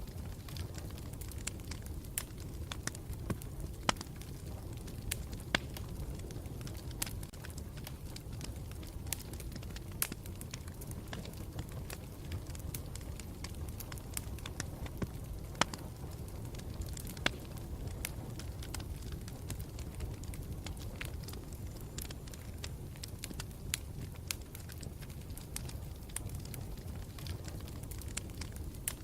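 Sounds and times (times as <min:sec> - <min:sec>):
campfire rumble: 0:00.0 - 0:29.0
wood crackling and popping: 0:00.0 - 0:29.0.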